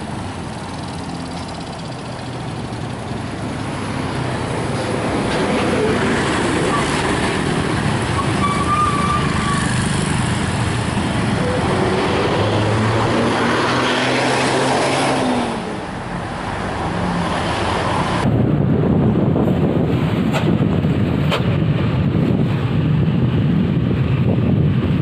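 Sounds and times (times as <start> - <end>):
diesel engine drone: 0.0 - 25.0
heavy traffic passing: 0.0 - 25.0.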